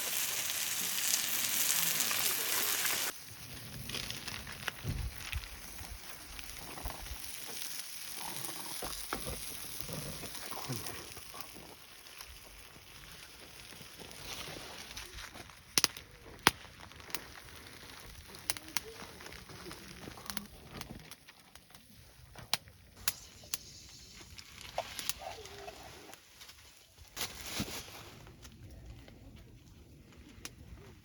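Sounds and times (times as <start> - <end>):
burning wood popping: 0.0 - 26.2
campfire crackling: 0.0 - 27.1.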